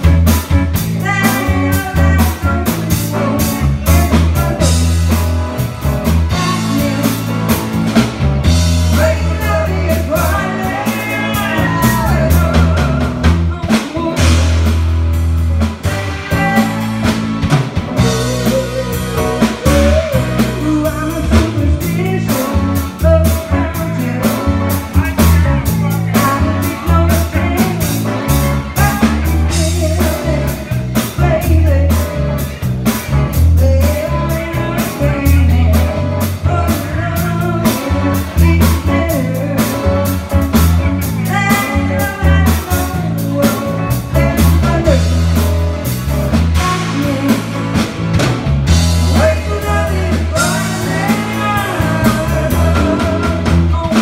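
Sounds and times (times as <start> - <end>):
heavy pulsing bass line: 0.0 - 54.0
live band playing: 0.0 - 54.0.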